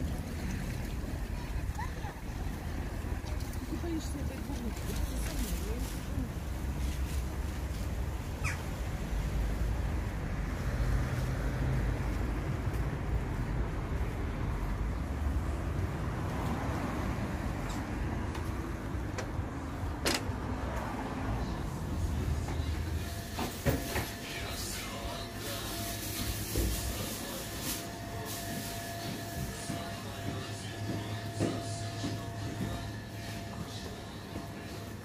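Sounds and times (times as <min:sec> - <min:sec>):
street traffic rumble: 0:00.0 - 0:35.0.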